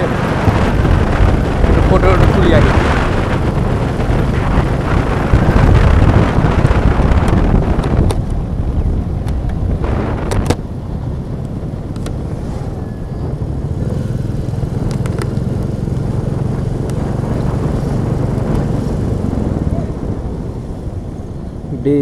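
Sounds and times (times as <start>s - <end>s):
motorcycle engine running: 0.0s - 21.7s
wind on microphone: 0.0s - 22.0s.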